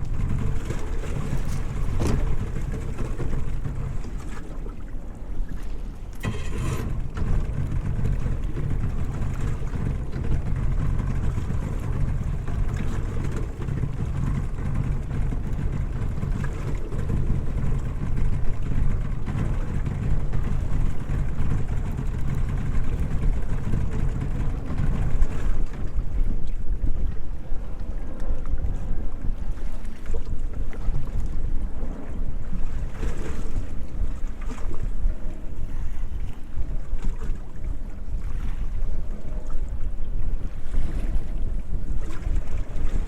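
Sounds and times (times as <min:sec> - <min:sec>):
boat motor running: 0:00.0 - 0:43.0
wind on microphone: 0:00.0 - 0:43.0.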